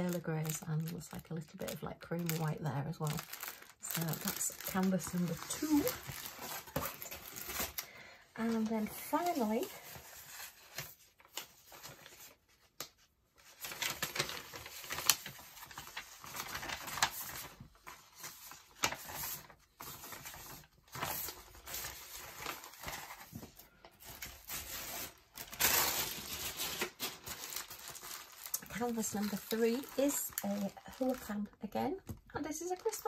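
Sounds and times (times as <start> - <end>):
packaging rustling and crinkling: 0.0 - 33.0.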